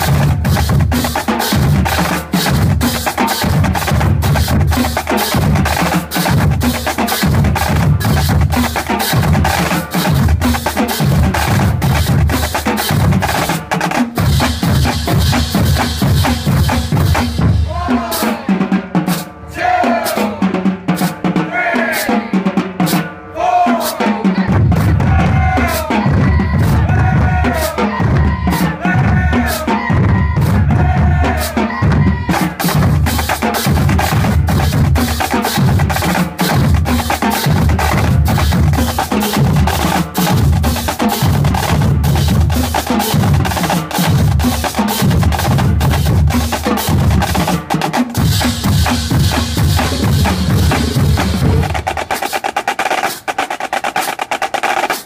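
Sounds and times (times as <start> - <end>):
snare drums and rolls: 0.0 - 55.0.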